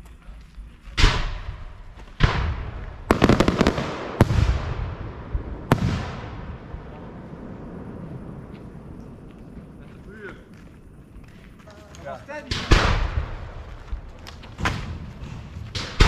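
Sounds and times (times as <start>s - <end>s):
firework bangs with rumbling echo: 1.0s - 11.2s, 12.3s - 16.0s
firework cracks: 1.0s - 16.0s.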